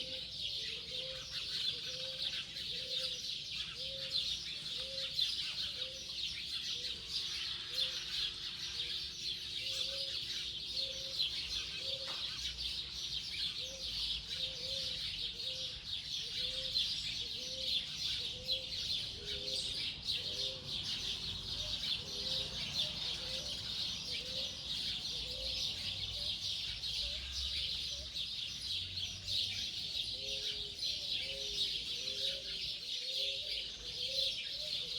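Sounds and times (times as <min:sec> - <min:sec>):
birds chattering: 0:00.0 - 0:34.9.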